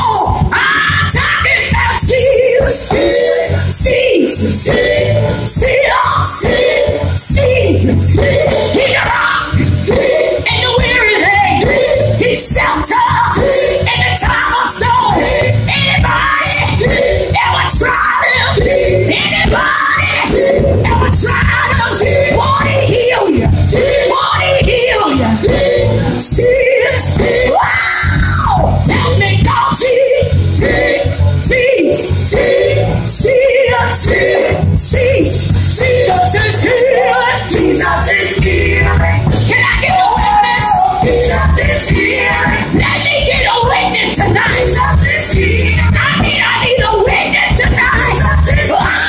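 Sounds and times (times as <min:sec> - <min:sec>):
band with bass and drums: 0:00.0 - 0:49.0
voices singing gospel: 0:00.0 - 0:49.0.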